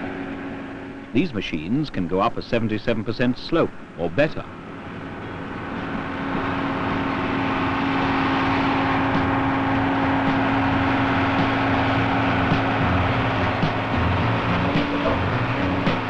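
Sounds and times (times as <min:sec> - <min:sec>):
excavator diesel engine whining: 0:00.0 - 0:16.0.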